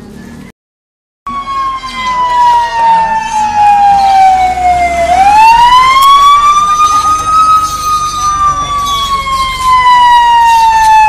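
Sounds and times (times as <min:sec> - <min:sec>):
siren wailing: 0:01.3 - 0:11.0.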